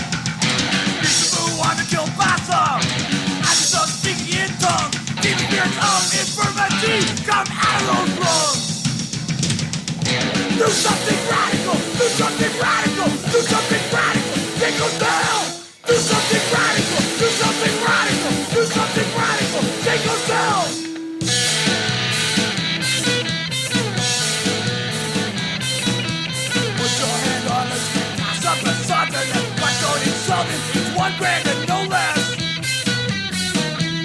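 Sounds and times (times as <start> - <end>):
bass guitar: 0.0 - 34.0
distorted electric guitars: 0.0 - 34.0
drums playing fast: 0.0 - 34.0.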